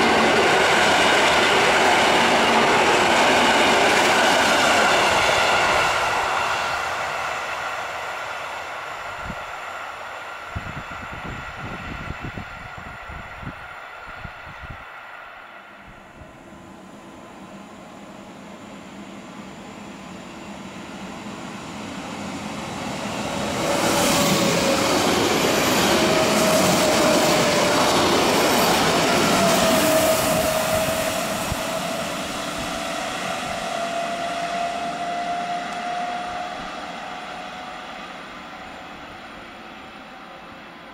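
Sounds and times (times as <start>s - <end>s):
train passing at speed: 0.0s - 40.9s.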